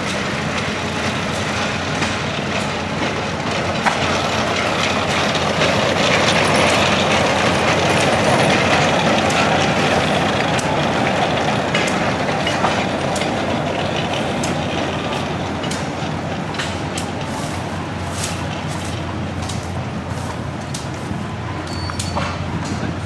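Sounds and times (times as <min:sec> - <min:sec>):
miniature train rolling past: 0:00.0 - 0:23.0
wheels clicking on rails: 0:00.0 - 0:23.0.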